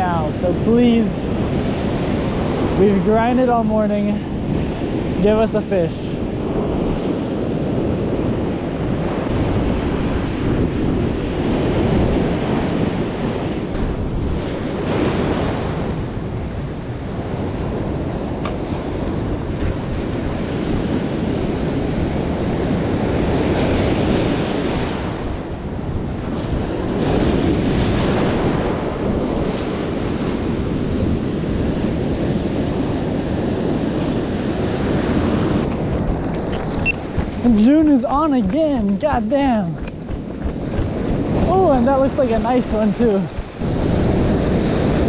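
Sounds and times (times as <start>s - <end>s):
surf breaking on beach: 0.0s - 45.0s
wind buffeting microphone: 0.0s - 45.0s.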